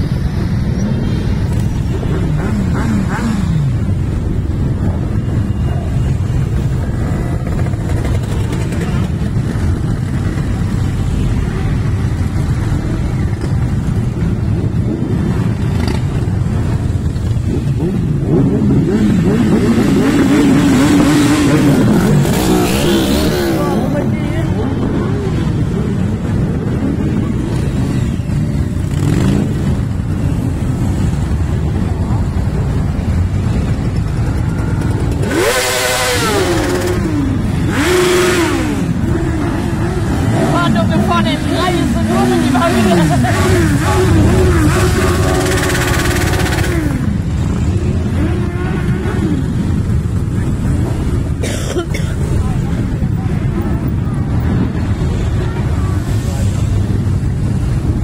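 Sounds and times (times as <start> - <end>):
motorcycle engines rumbling: 0.0 - 58.0.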